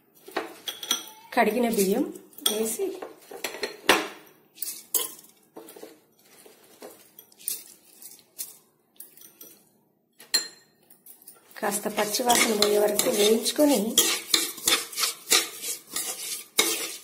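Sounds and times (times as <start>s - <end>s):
metal utensils clinking on pot: 0.2s - 4.0s, 4.6s - 5.9s, 6.7s - 17.0s.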